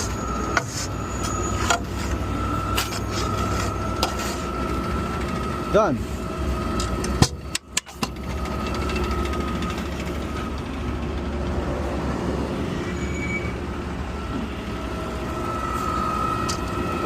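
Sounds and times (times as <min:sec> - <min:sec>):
garbage truck engine rumble: 0:00.0 - 0:17.0
high whine: 0:00.0 - 0:17.0.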